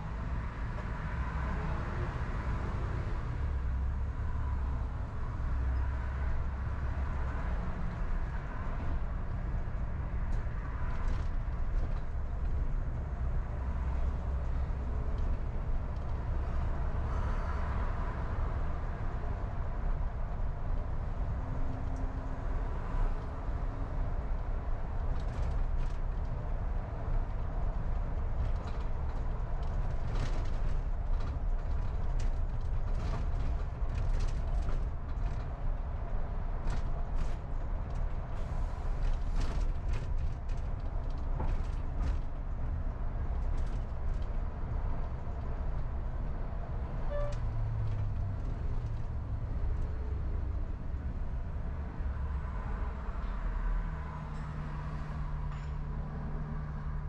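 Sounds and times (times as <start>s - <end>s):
car driving on street: 0.0s - 57.0s.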